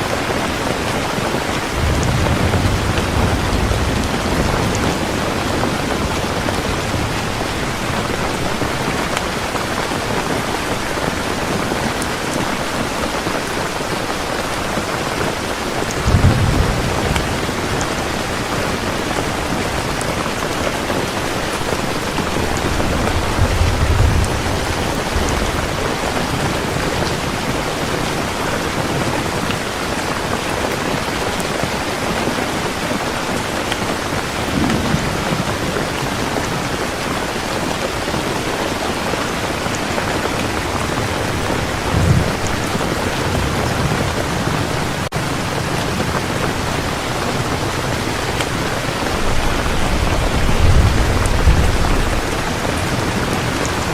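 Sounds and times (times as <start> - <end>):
thunder rumbling: 0.0 - 31.2, 31.8 - 53.9
heavy rain falling: 0.0 - 53.9.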